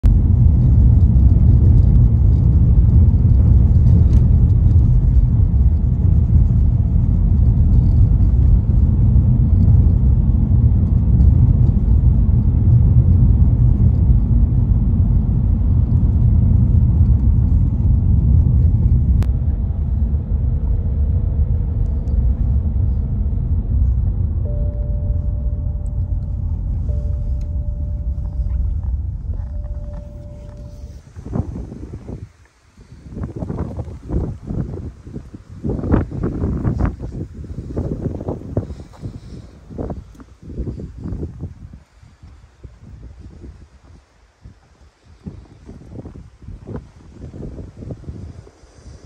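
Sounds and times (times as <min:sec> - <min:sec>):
car tyres and engine rumble: 0:00.0 - 0:49.0.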